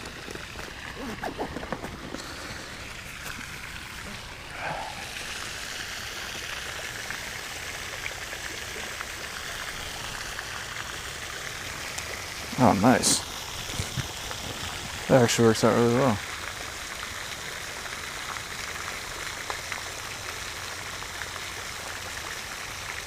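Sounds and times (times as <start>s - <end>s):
running water trickling: 0.0s - 23.0s.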